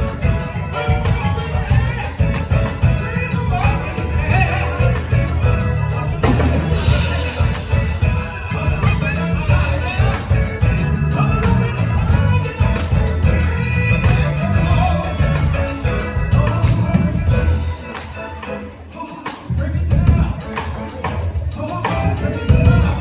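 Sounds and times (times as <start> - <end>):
drums: 0.0 - 23.0
heavy bass line: 0.0 - 23.0
live band music: 0.0 - 23.0
person singing: 0.0 - 23.0.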